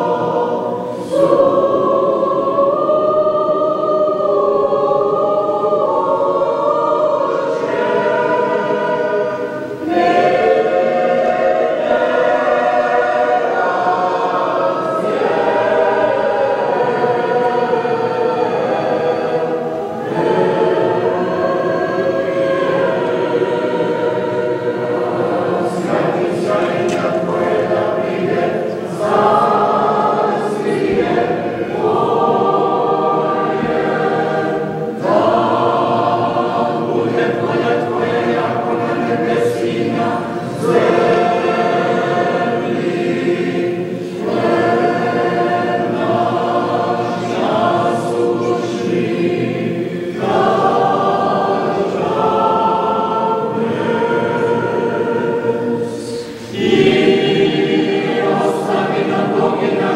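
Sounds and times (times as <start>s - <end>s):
choir chanting a cappella: 0.0s - 59.9s.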